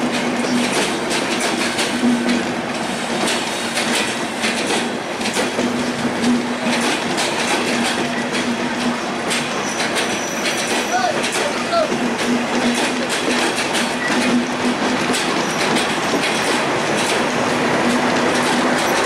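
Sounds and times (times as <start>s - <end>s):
train coaches rumbling past: 0.0s - 19.0s
wheels clattering over rail joints: 0.0s - 19.0s.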